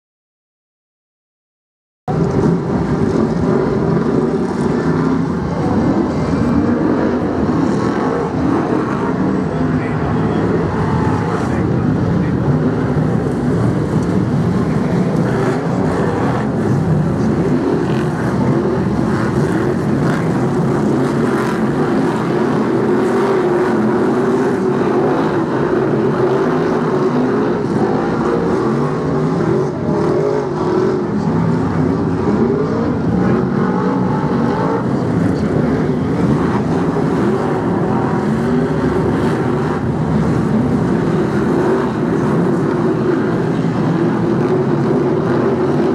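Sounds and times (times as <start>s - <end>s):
racing car engines passing: 2.1s - 45.9s.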